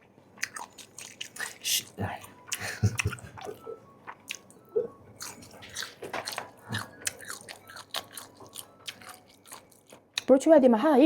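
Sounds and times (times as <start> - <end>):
person chewing crunchy food: 0.4 - 4.6, 5.2 - 10.3.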